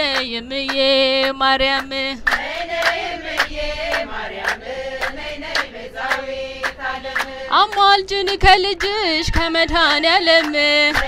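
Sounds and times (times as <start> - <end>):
voices chanting: 0.7 - 11.0.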